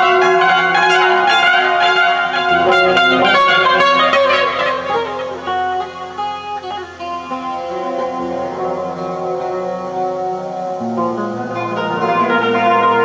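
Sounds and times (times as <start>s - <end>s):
plucked guitar chords: 0.0s - 13.0s.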